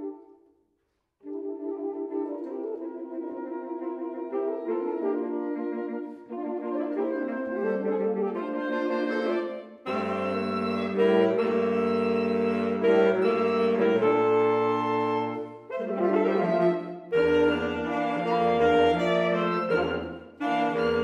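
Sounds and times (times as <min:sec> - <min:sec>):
saxophone quartet playing chords: 0:02.9 - 0:21.0.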